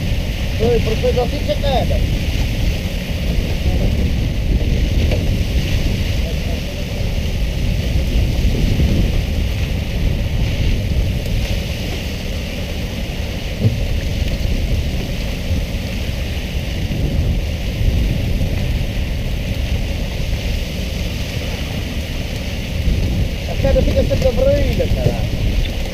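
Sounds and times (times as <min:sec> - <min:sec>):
low boat rumble: 0:00.0 - 0:25.9
water sprayers hissing: 0:00.0 - 0:25.9
wind on microphone: 0:00.0 - 0:25.9.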